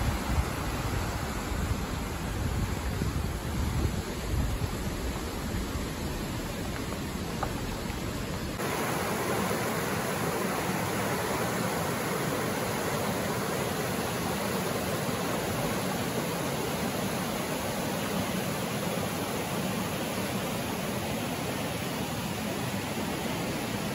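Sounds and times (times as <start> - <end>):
stream rushing over rocks: 0.0 - 23.9.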